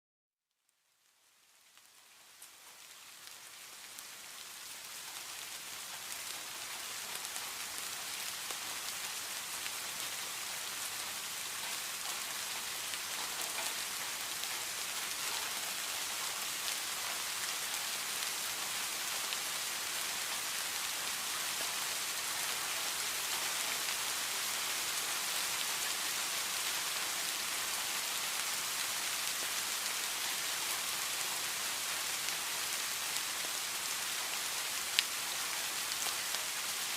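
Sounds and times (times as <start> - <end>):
steady rain falling: 0.6 - 36.9.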